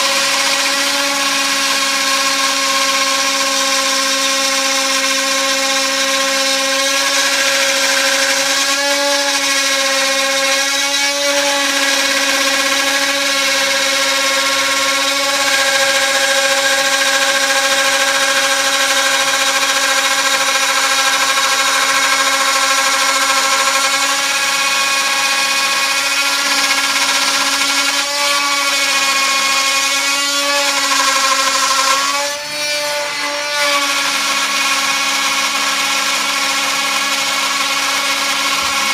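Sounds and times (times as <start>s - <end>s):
router spindle whine: 0.0s - 38.9s
wood cutting noise: 0.0s - 38.9s.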